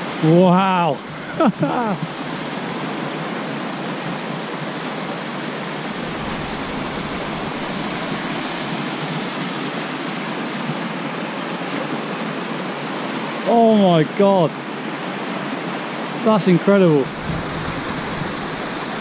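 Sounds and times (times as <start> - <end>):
water cascading over rocks: 0.0 - 19.0.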